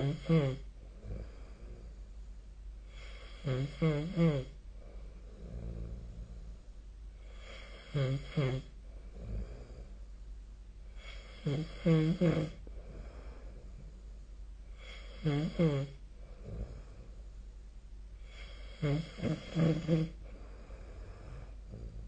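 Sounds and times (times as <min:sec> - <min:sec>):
person snoring: 0:00.0 - 0:02.1, 0:02.9 - 0:10.0, 0:11.0 - 0:14.0, 0:14.7 - 0:17.3, 0:18.2 - 0:22.0
low steady hum: 0:00.0 - 0:22.0.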